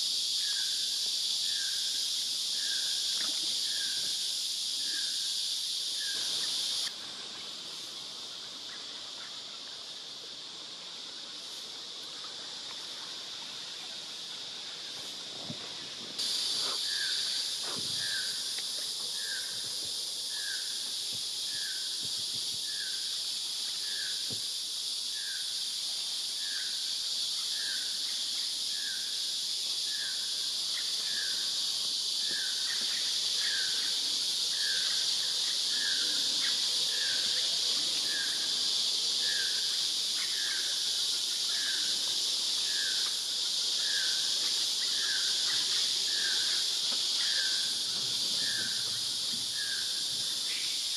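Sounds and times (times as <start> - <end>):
insects buzzing chorus: 0.0 - 50.9.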